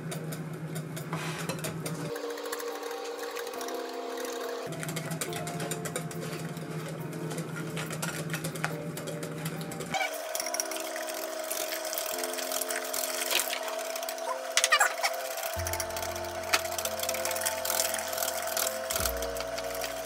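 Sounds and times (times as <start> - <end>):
soft background music: 0.5 - 20.0
whisk beating batter in glass bowl: 0.8 - 20.0.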